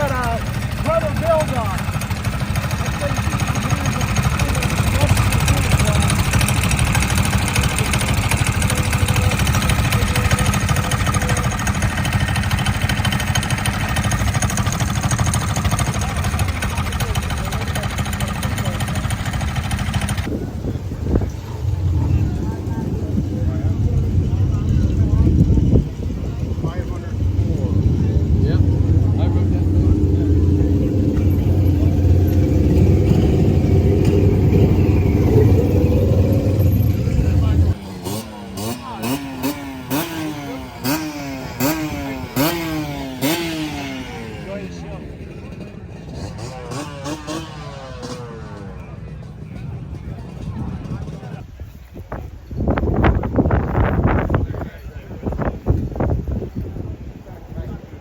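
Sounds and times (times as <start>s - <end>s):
motorcycle engine idling: 0.0s - 54.6s.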